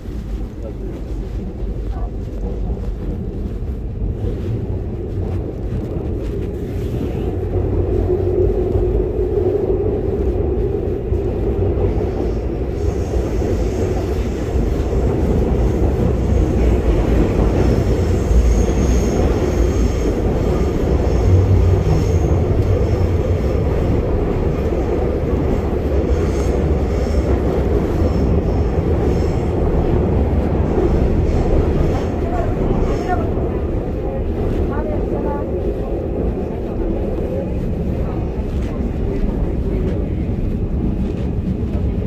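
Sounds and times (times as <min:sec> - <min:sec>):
subway car rumbling on track: 0:00.0 - 0:42.0.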